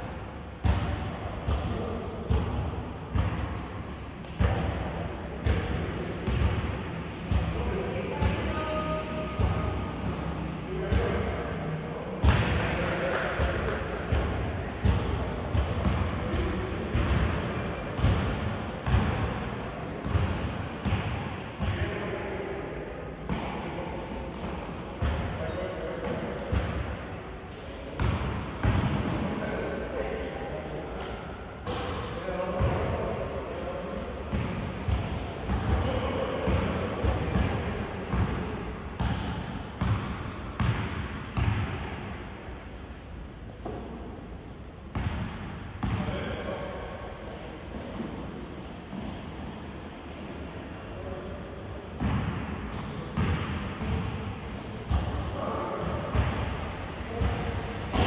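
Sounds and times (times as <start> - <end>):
basketball bouncing in hall: 0.0 - 22.4, 23.2 - 30.0, 30.6 - 42.7, 43.5 - 47.0, 47.8 - 49.6, 51.8 - 58.0.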